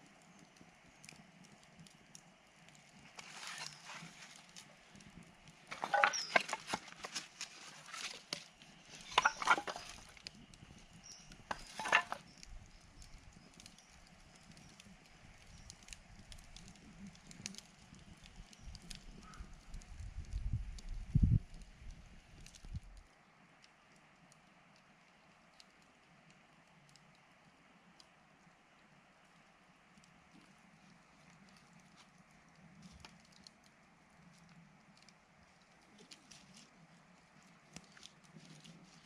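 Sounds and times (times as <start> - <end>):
campfire wood crackling: 0.0 - 39.0.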